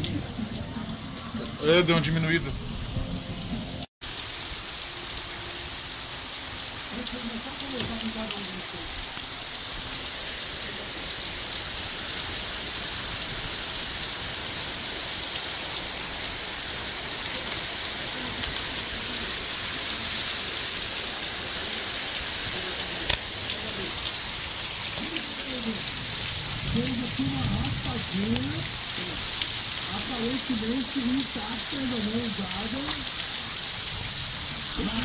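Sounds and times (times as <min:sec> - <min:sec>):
heavy rain pouring: 0:00.0 - 0:35.0
raindrops ticking on surfaces: 0:00.0 - 0:35.0.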